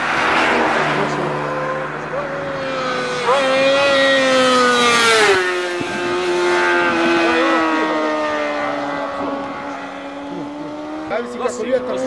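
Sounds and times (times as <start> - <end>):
motorcycle passing at speed: 0.0 - 12.0.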